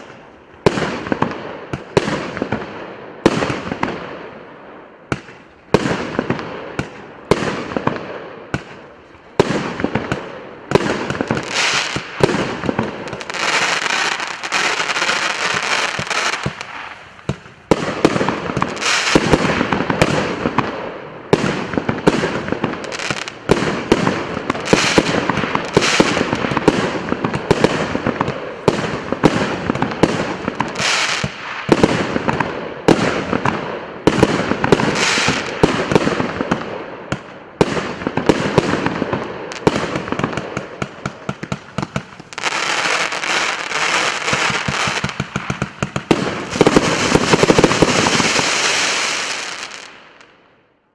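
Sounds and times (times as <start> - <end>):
fireworks shot bangs: 5.1 - 50.3
fireworks crackling: 5.1 - 50.4.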